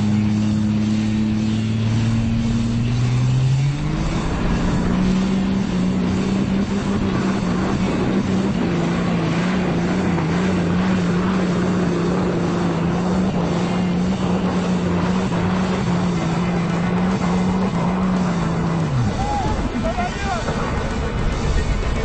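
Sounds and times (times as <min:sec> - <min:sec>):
diesel truck engine high revs: 0:00.0 - 0:21.8.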